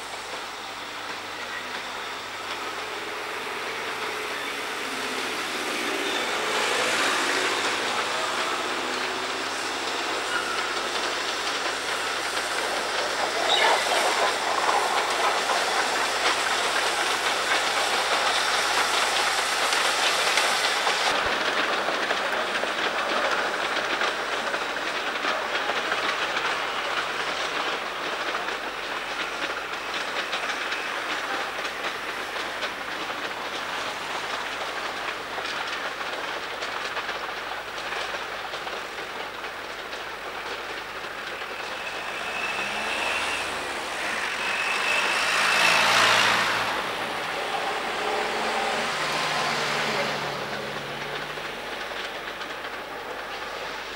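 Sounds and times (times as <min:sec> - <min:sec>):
steam locomotive exhaust and hiss: 0:00.0 - 0:53.9
train wheels on track: 0:00.0 - 0:53.9.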